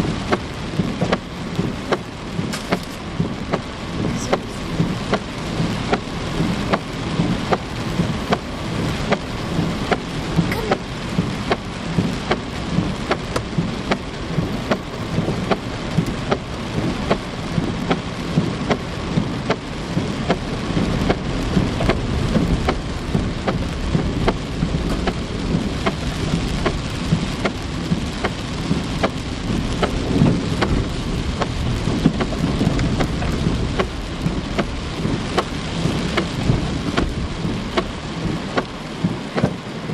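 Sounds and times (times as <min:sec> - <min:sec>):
low rumble: 0:00.0 - 0:39.4
heavy rain pouring: 0:00.0 - 0:39.9.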